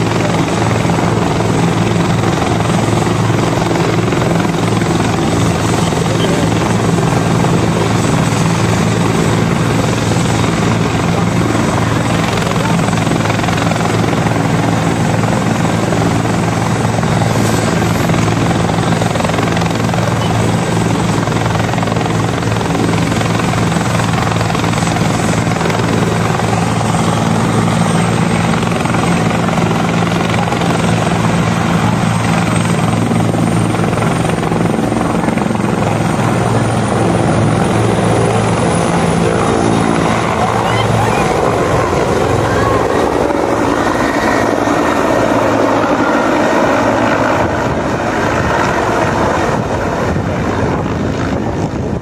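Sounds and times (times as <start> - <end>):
helicopter engine rush: 0.0 - 52.0
helicopter rotor thrum: 0.0 - 52.0
high turbine whine: 0.0 - 52.0.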